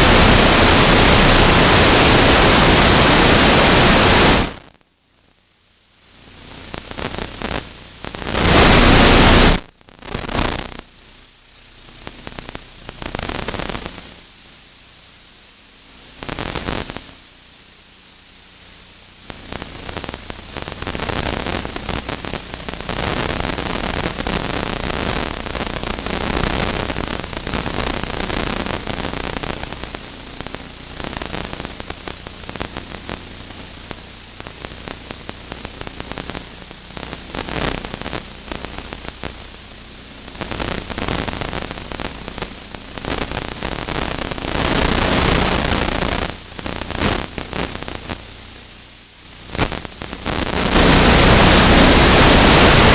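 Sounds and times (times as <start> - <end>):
static hiss: 0.0 - 52.9.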